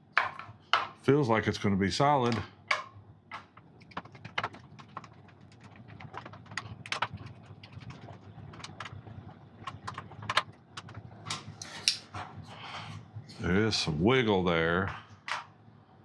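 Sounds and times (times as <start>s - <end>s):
faint low hum: 0.1s - 16.0s.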